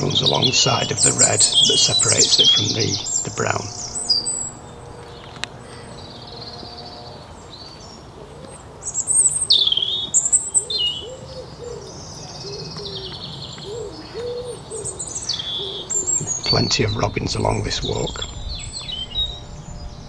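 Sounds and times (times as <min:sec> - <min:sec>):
birds twittering and whistling: 0:00.0 - 0:20.0
soft cooing bird call: 0:00.0 - 0:20.0.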